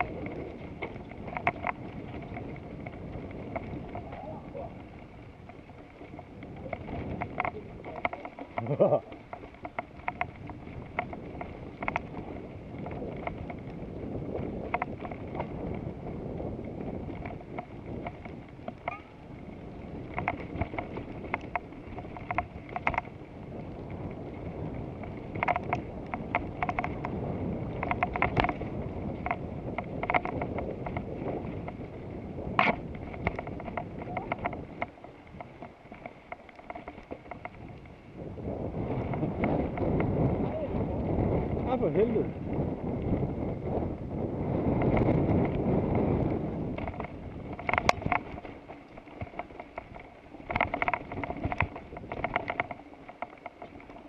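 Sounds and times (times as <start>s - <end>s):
bicycle tyre noise: 0.0s - 54.0s
bike clicking and rattling: 0.0s - 54.0s
wind on microphone: 0.0s - 54.0s.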